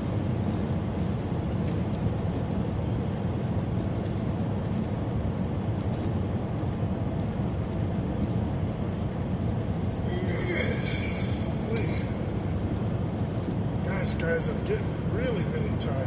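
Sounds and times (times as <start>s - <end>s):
truck road and engine drone: 0.0s - 16.0s.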